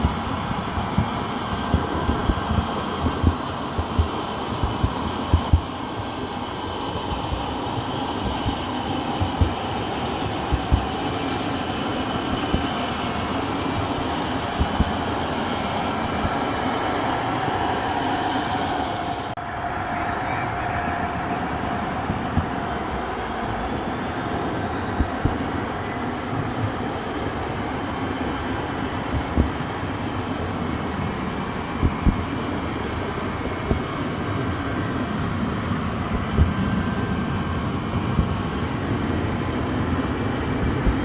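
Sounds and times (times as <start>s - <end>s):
faint steady tone: 0.0s - 41.0s
train rumbling on rails: 0.0s - 41.0s.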